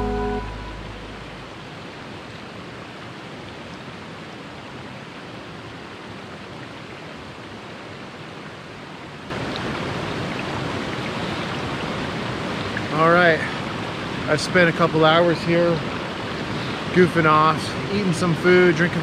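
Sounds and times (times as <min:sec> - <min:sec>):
mountain creek flowing: 0:00.0 - 0:19.0.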